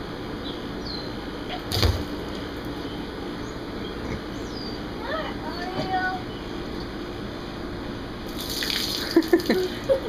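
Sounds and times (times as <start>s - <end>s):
background hum: 0.0s - 10.0s.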